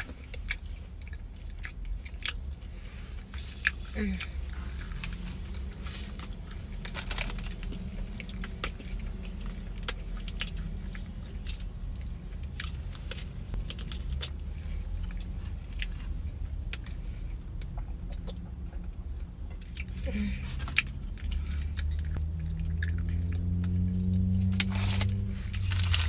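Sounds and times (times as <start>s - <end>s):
person chewing crisp food: 0.0s - 26.0s
steady low hum: 0.0s - 26.0s.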